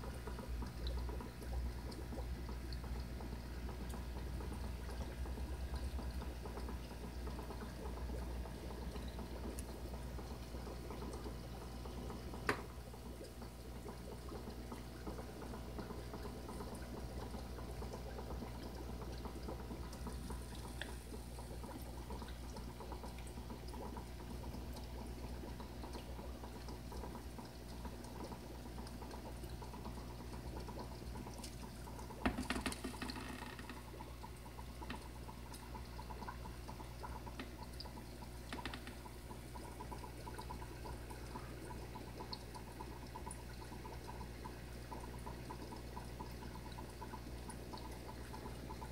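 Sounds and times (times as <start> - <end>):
aquarium filter humming: 0.0 - 48.9
water trickling: 0.0 - 48.9.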